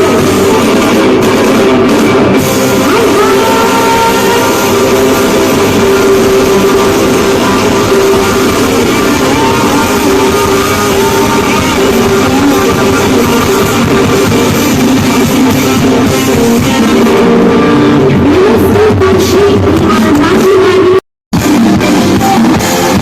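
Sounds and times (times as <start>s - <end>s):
live band with guitar and drums: 0.0s - 23.0s.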